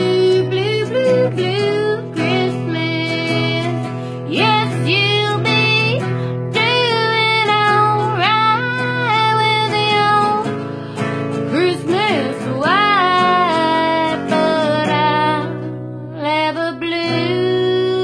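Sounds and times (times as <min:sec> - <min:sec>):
person singing with vibrato: 0:00.0 - 0:10.8, 0:11.4 - 0:18.0
acoustic guitar: 0:00.0 - 0:18.0.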